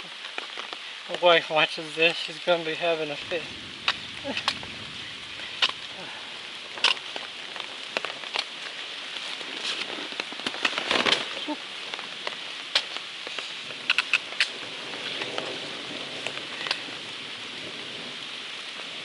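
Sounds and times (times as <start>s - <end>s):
raindrops ticking: 0.0s - 19.0s
rustle: 0.0s - 19.0s
steady rain falling: 0.0s - 19.0s.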